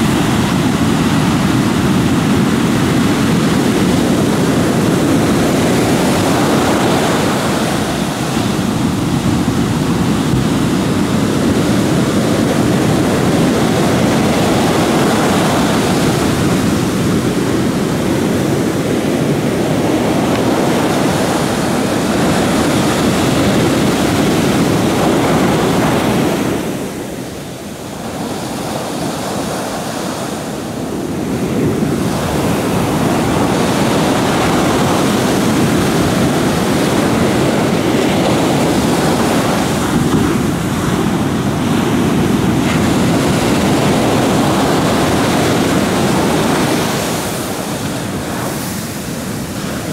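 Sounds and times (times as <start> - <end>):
heavy surf breaking against boat hull: 0.0 - 49.9.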